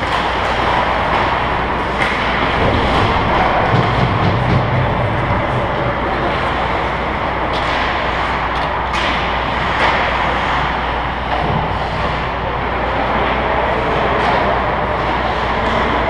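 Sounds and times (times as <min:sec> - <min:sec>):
faint distant hockey clacks: 0:00.0 - 0:16.0
ice rink hiss and hum: 0:00.0 - 0:16.0.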